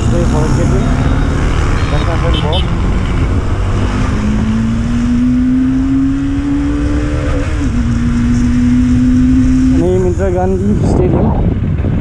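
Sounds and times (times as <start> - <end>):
wind and road rumble: 0.0 - 12.0.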